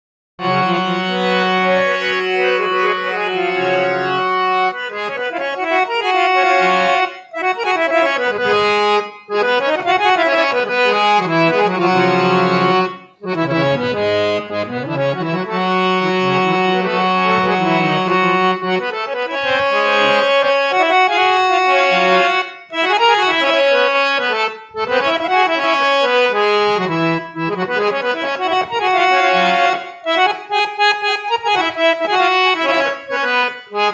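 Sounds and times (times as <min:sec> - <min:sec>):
harmonium melody over drone: 0:00.4 - 0:33.9.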